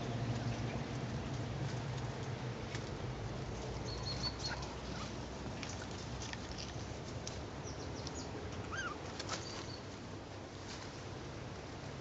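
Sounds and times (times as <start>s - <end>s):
kittens rustling in dry leaves: 0.0s - 12.0s.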